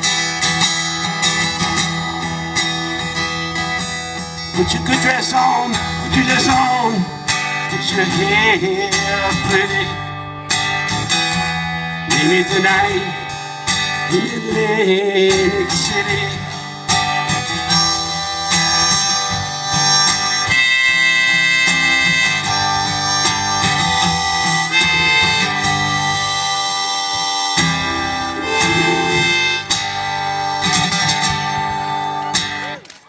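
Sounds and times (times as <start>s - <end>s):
harmonica playing: 0.0s - 14.2s, 15.4s - 32.7s
strummed acoustic guitar: 0.0s - 32.8s.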